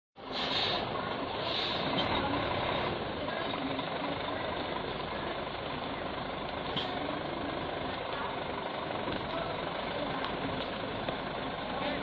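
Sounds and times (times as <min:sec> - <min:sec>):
truck engine running: 0:00.2 - 0:12.0.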